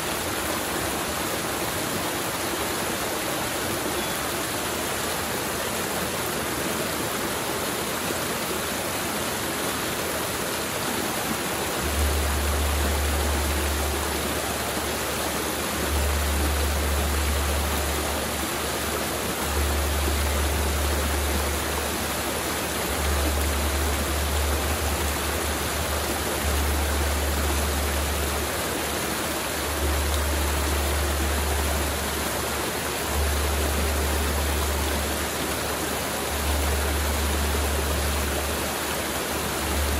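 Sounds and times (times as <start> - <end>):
mountain river flowing: 0.0 - 39.9.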